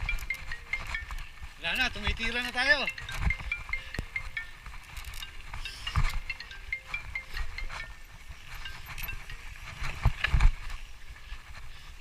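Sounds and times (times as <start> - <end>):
bite bells jingling: 0.0 - 10.0.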